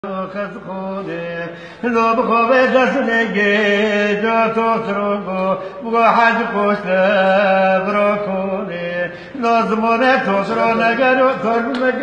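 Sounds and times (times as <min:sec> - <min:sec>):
person singing a lament: 0:00.0 - 0:12.0.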